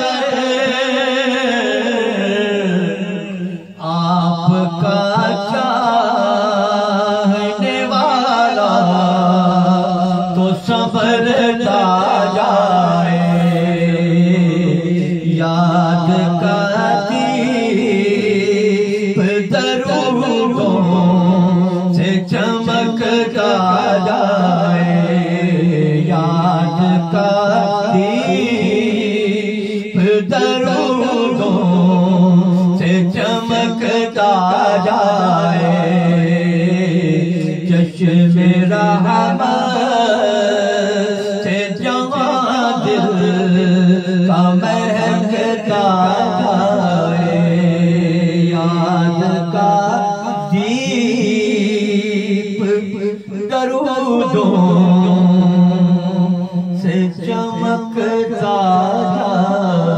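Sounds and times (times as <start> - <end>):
man chanting melodically: 0.0 - 59.9.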